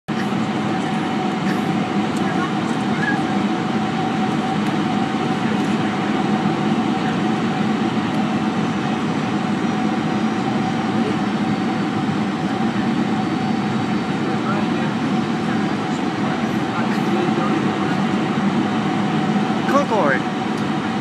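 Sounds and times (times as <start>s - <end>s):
jet engines and rushing air: 0.1s - 21.0s
thin steady whine: 0.1s - 21.0s.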